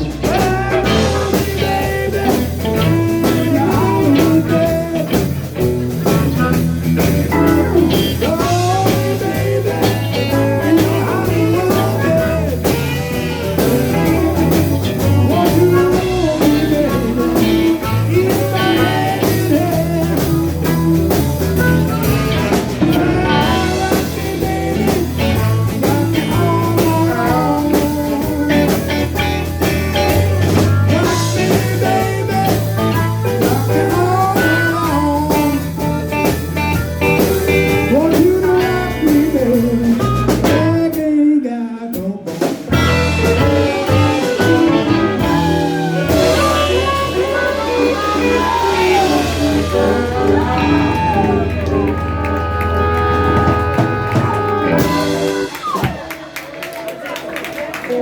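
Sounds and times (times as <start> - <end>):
electric guitar lead with bending notes: 0.0 - 40.8, 42.7 - 56.4
bass line: 0.0 - 41.2, 42.0 - 56.5
drums: 0.0 - 58.0.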